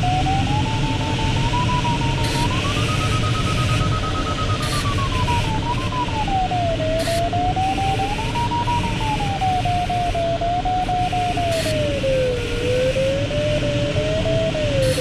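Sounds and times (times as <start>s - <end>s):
variometer wavering tone: 0.0s - 15.0s.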